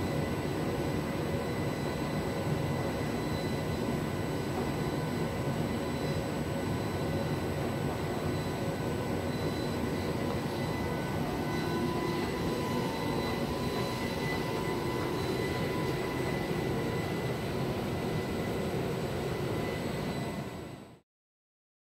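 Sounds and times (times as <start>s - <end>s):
steady high whine: 0.0s - 21.0s.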